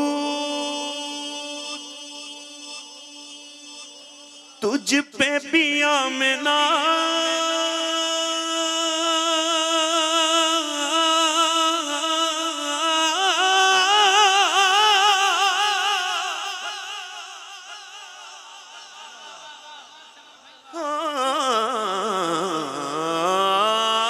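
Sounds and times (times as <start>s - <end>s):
man singing unaccompanied: 0.0s - 17.8s, 20.5s - 24.0s.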